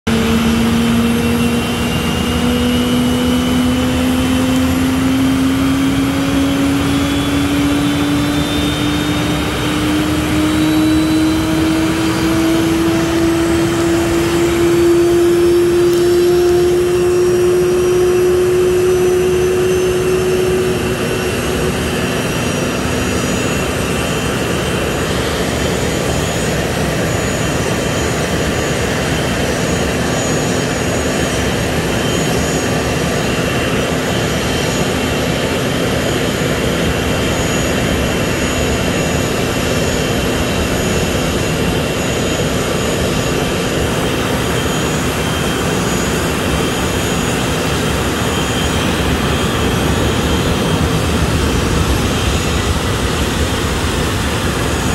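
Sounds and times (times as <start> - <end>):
jet engine rush: 0.0 - 54.9
jet engine whine: 0.0 - 54.9.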